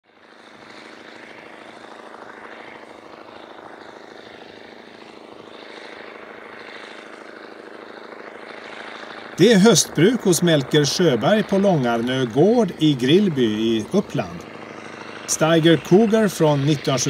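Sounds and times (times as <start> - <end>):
tractor diesel engine droning: 0.1 - 17.0.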